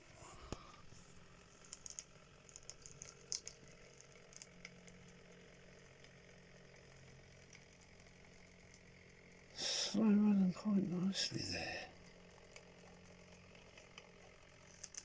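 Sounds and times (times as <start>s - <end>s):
faint model train motor hum: 0.0s - 15.0s
small ticks and crackles: 0.0s - 15.0s.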